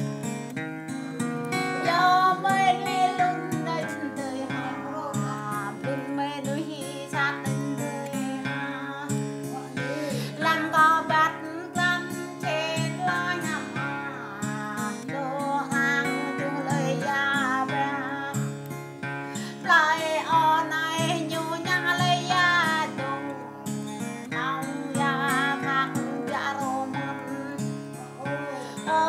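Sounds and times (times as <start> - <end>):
acoustic guitar strumming: 0.0 - 29.0
woman singing: 1.1 - 29.0.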